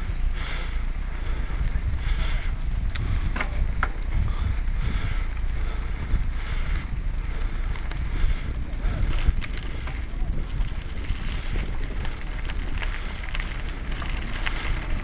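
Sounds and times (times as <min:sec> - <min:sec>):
bike rattling clicks: 0:00.0 - 0:15.0
wind rumble: 0:00.0 - 0:15.0.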